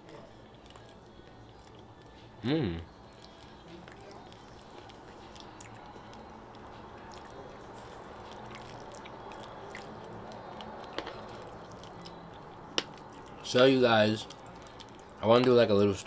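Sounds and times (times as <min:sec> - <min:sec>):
chewing food: 0:00.1 - 0:16.0.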